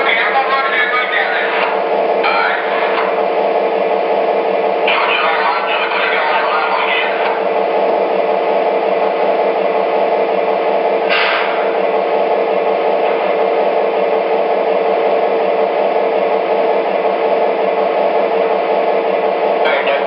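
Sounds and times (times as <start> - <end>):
diesel locomotive engine idling: 0.0 - 20.0.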